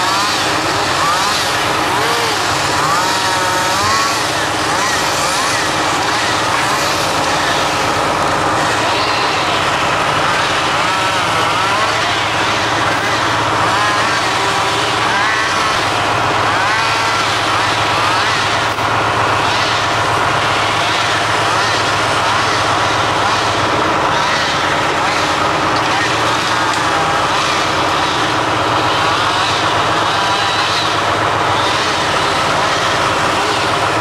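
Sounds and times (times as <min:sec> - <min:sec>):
hydraulic whine: 0:00.0 - 0:34.0
tractor diesel engine running: 0:00.0 - 0:34.0.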